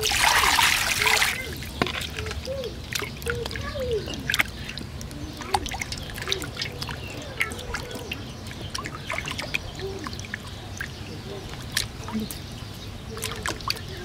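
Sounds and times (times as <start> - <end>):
water dripping: 0.0 - 14.0
water splashing in a basin: 0.0 - 14.0.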